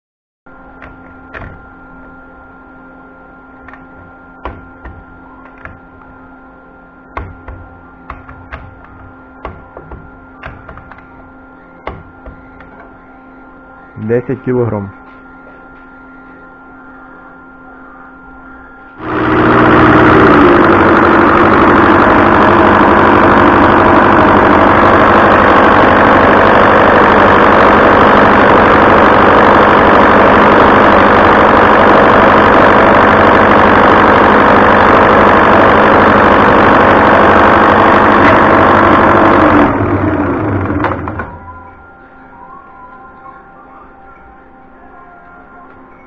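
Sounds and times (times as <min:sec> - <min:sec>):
diesel fuel injection pump running: 0:00.5 - 0:14.7, 0:18.9 - 0:41.9.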